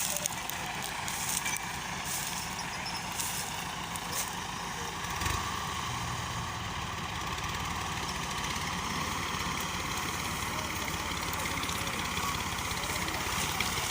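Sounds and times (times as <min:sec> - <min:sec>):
tractor diesel engine chugging: 0:00.0 - 0:13.9.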